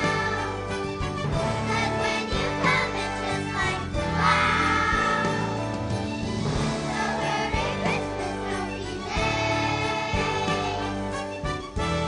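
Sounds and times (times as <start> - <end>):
children's choir singing: 0.0 - 5.8, 6.6 - 11.1
instrumental accompaniment: 0.0 - 12.0.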